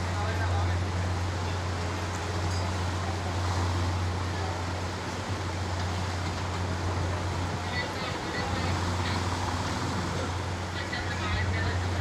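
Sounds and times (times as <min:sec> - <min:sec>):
background noise wash: 0:00.0 - 0:12.0.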